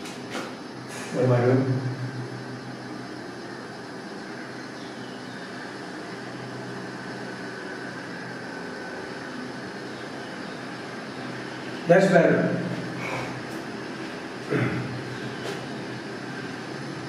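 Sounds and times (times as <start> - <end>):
faint high whine: 0.0 - 17.0
room hum: 0.0 - 17.0.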